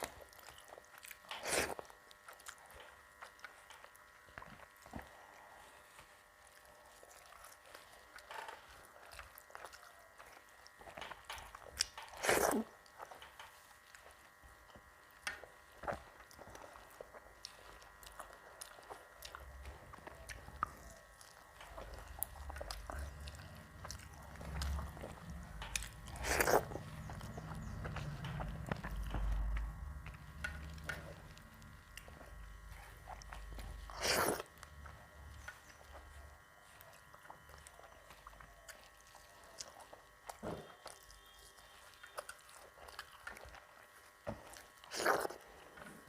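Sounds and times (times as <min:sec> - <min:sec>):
person chewing and crunching: 0:00.0 - 0:46.0.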